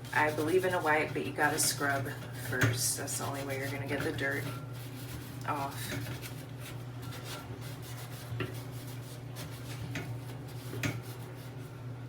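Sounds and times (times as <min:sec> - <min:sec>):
sponge scrubbing stainless steel: 0:00.0 - 0:11.7.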